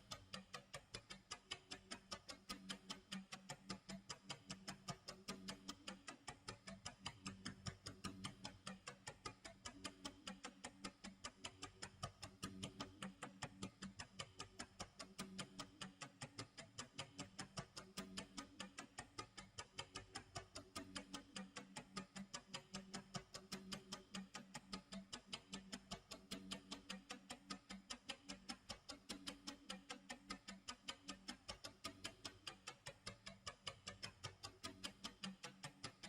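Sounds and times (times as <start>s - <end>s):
clock ticking: 0.0s - 36.0s.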